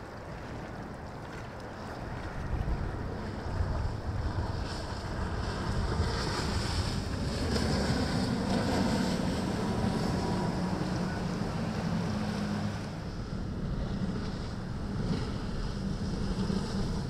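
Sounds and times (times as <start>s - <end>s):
boat engines humming: 0.0s - 17.0s
waves and rushing water: 0.0s - 17.0s
wind buffeting microphone: 0.0s - 17.0s.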